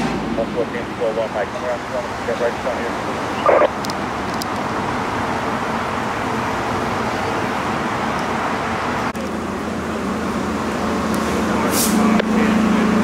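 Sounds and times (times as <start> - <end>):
tyres on the road: 0.0 - 13.0
vehicle engines running: 0.0 - 13.0.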